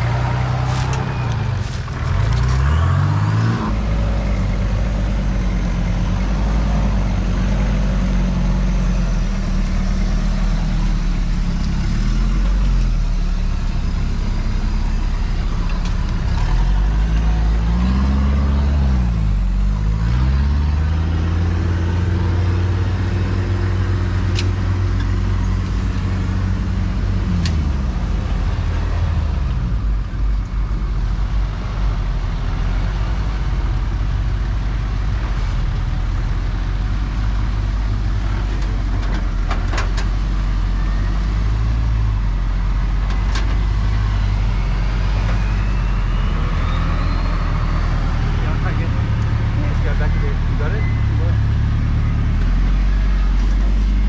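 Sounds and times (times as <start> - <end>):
engines revving: 0.0 - 54.0.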